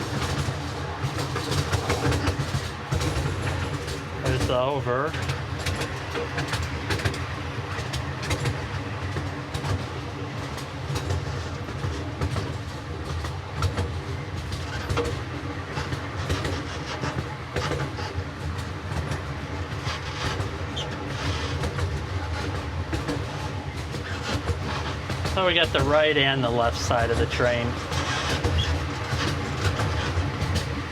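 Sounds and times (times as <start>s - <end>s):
miniature train rumbling: 0.0s - 30.9s
wheels clacking over rail joints: 0.0s - 30.9s.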